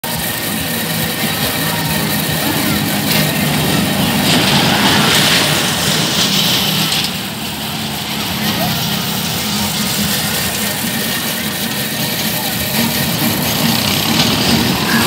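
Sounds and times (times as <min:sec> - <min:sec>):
low machine hum: 0:00.0 - 0:15.0
roller coaster wheels rattling on rails: 0:00.0 - 0:15.0.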